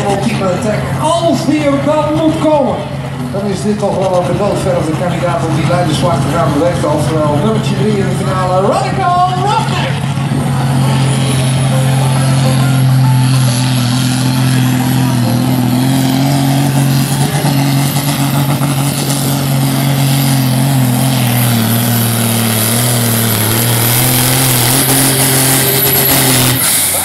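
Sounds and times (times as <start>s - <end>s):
diesel engine under heavy load: 0.0s - 27.0s.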